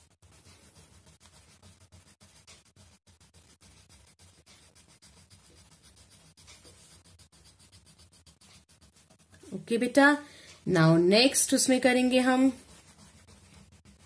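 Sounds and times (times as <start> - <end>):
crayon scratching on paper: 0.0 - 10.6, 11.2 - 14.0.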